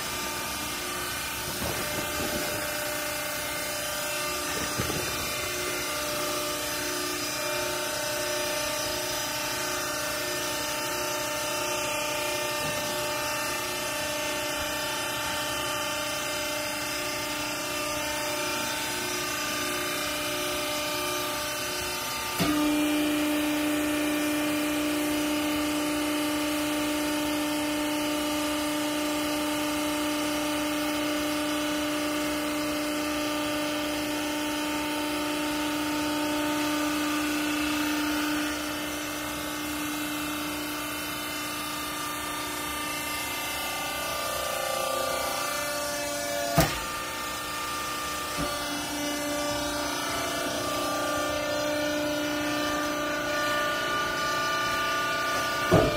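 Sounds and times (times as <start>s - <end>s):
hydraulic pump motor humming: 0.0s - 55.9s.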